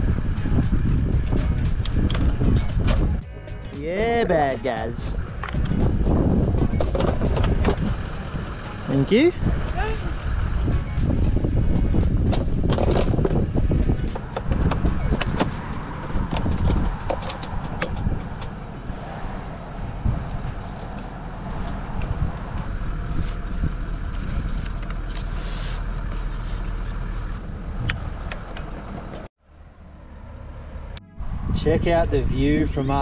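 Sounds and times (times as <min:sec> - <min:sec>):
low vehicle hum: 0:00.0 - 0:33.0.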